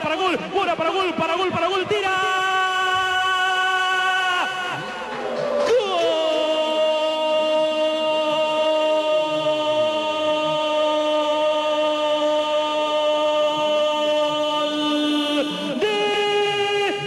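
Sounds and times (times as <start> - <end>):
commentator shouting: 0.0 - 17.0.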